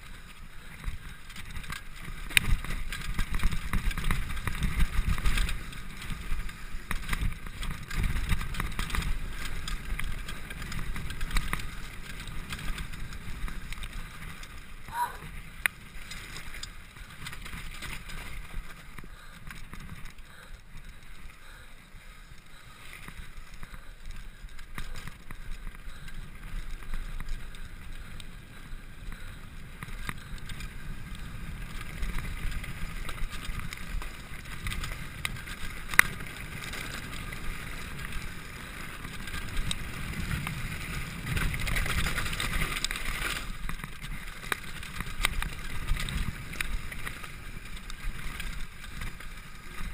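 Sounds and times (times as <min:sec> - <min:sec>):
bike rattling over bumps: 0:00.0 - 0:49.9
bike tyres rumbling on gravel: 0:00.0 - 0:49.9.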